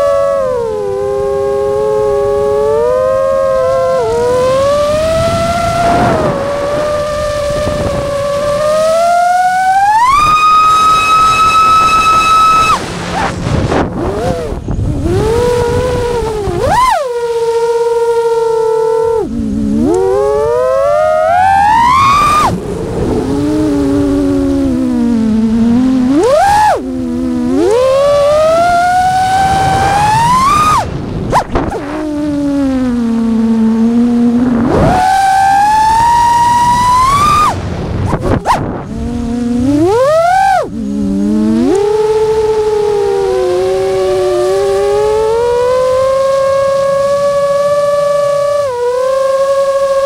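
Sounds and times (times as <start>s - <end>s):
drone motors whining: 0.0s - 50.0s.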